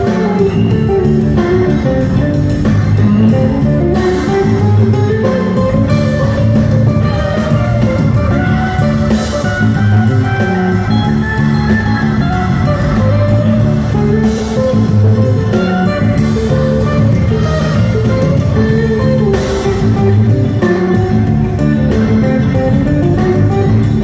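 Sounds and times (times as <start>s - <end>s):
bass guitar: 0.0s - 24.0s
drum kit: 0.0s - 24.0s
electric guitar: 0.0s - 24.0s.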